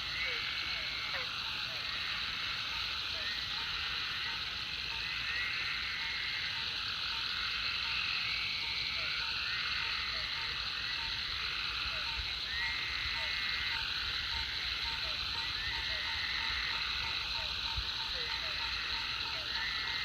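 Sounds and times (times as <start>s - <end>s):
frog trills: 0.0s - 20.0s
frogs calling: 0.0s - 20.0s.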